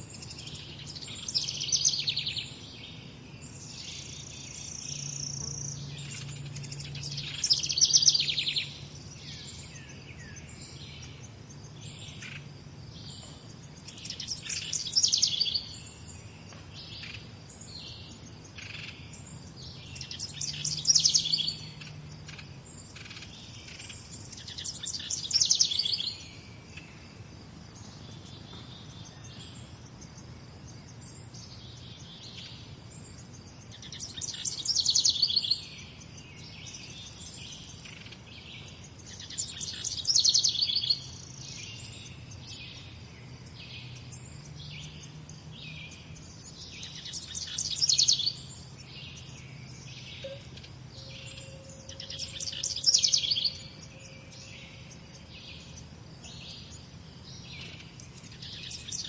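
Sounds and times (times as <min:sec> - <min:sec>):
bird singing rapid song: 0:00.0 - 0:59.0.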